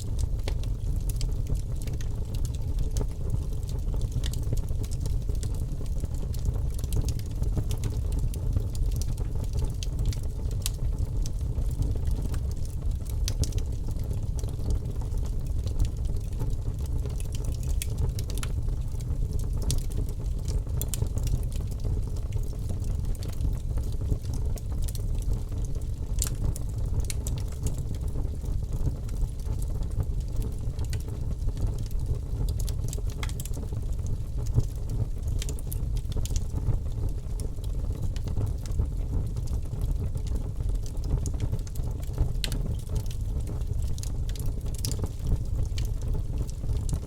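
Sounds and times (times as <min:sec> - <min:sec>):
campfire crackling and popping: 0:00.1 - 0:47.0.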